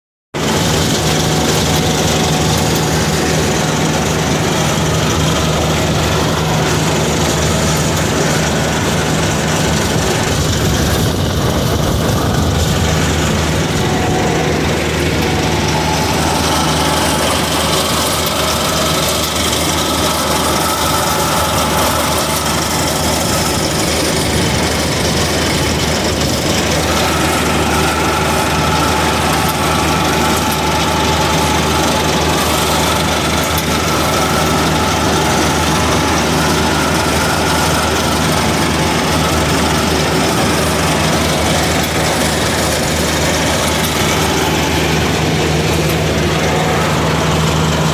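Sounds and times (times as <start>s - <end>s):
tractor engine running: 0.3s - 47.9s.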